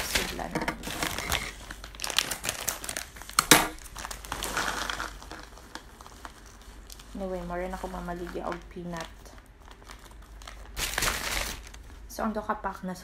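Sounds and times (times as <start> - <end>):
plastic packet crinkling: 0.0 - 12.1.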